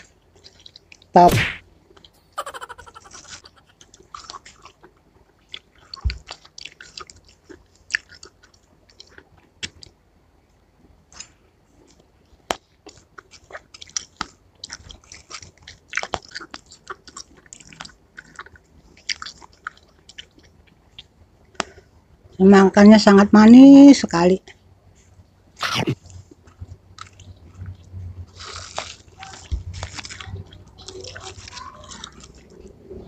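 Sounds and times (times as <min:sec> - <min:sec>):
wet chewing and biting: 0:00.0 - 0:10.0, 0:11.2 - 0:21.8, 0:25.6 - 0:33.0.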